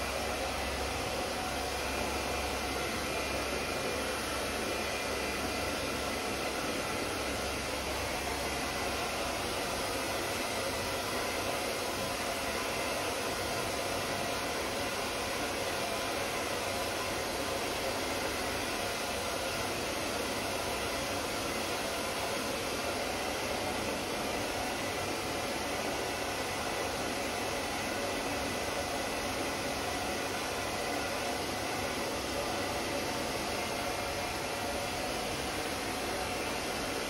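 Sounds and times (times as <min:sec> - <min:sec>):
hair dryer running: 0:00.0 - 0:37.0.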